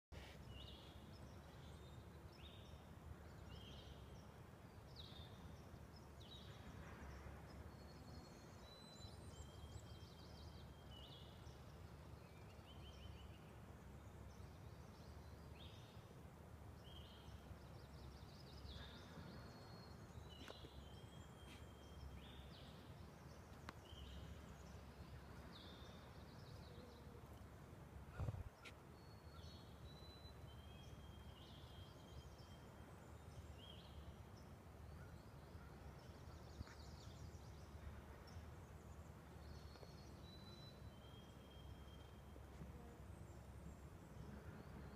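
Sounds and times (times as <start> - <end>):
faint birdsong: 0.0 - 44.9.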